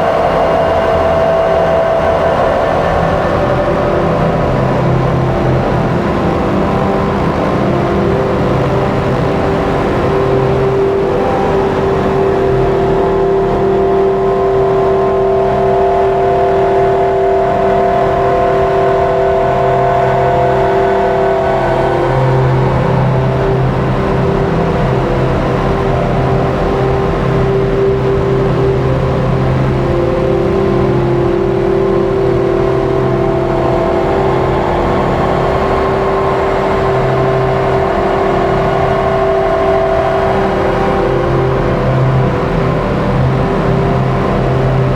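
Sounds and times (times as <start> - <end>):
synthesizer drone: 0.0 - 44.9.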